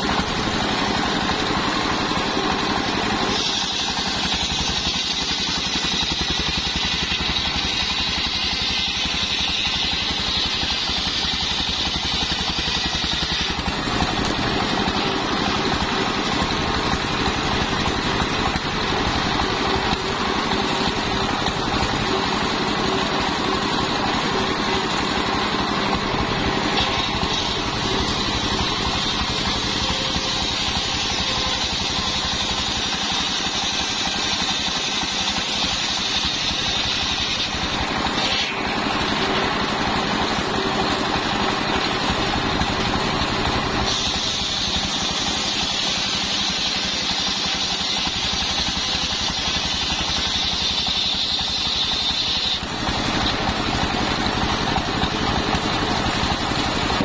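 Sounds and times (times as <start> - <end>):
circular saw blade whine: 0.0 - 57.0
diesel engine drone: 0.0 - 57.0
saw rasping through wood: 0.0 - 57.0.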